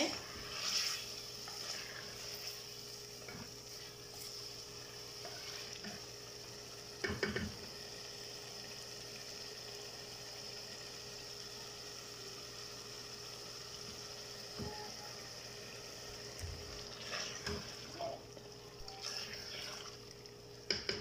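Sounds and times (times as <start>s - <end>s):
meat sizzling in a pot: 0.0s - 21.0s.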